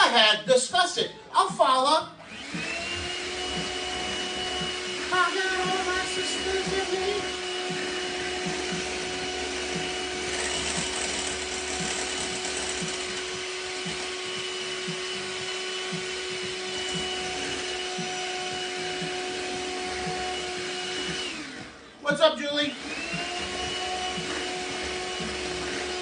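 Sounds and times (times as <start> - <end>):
electric hand mixer whining: 2.2 - 26.0.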